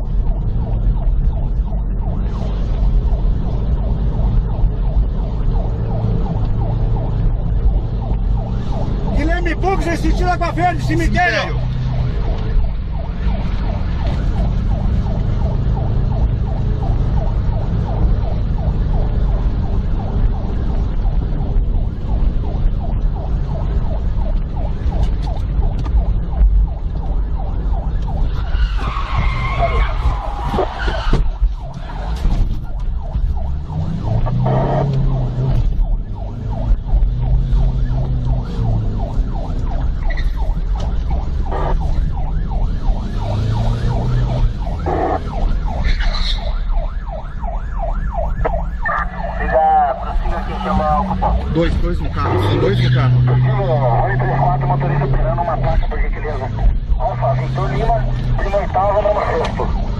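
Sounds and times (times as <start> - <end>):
car engine and road noise: 0.0 - 59.9
police siren yelping: 0.0 - 59.9.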